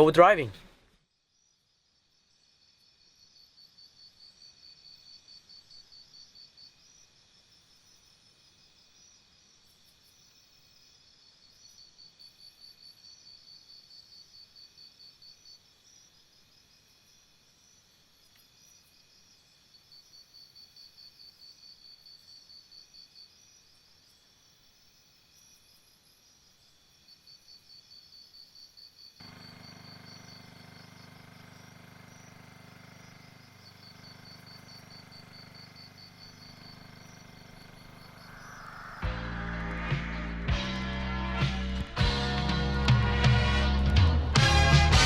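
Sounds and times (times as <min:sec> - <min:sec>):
insects chirping: 0:01.1 - 0:40.4.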